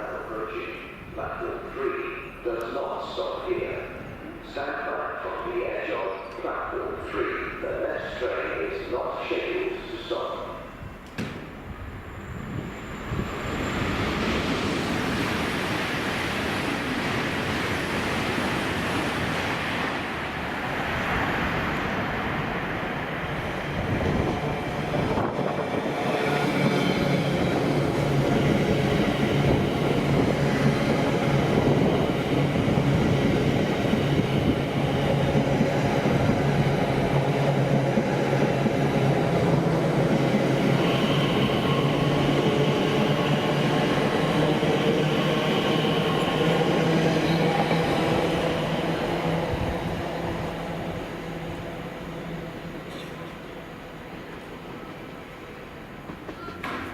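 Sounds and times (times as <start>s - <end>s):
train passing: 0.0s - 56.9s.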